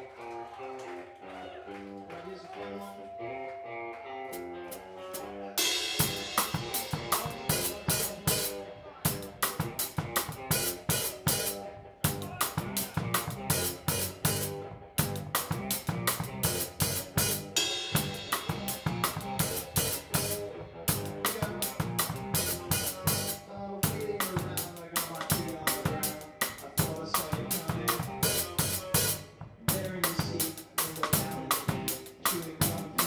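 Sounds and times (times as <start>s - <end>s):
electric guitar: 0.0s - 33.0s
drum kit playing rhythm: 4.0s - 33.0s.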